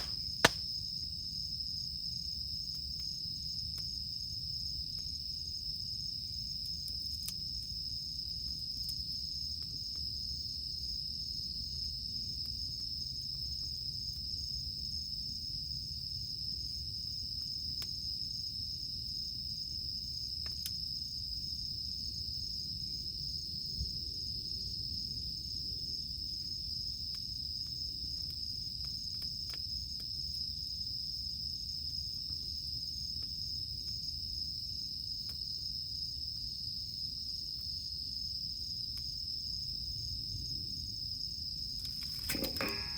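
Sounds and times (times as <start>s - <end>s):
campfire crackling: 0.0s - 22.3s, 25.2s - 42.9s
cicadas droning: 0.0s - 42.9s.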